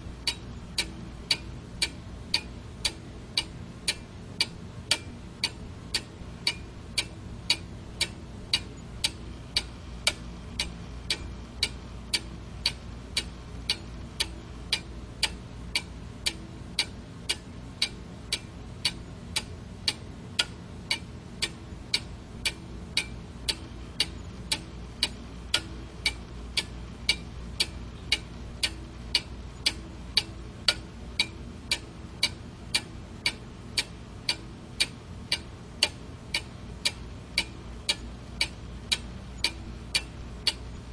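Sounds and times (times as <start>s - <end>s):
clock ticking: 0.2s - 40.7s.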